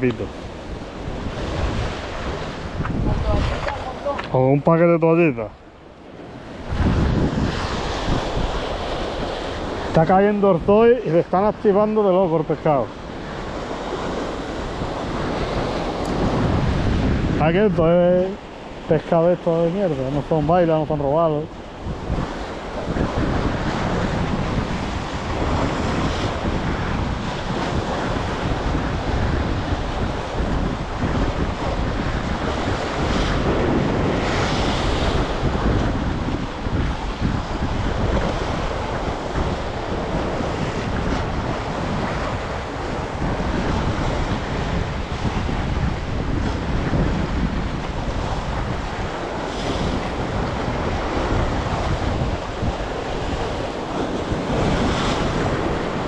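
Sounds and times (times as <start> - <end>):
sea surf: 0.0 - 56.0
wind buffeting microphone: 0.0 - 56.0.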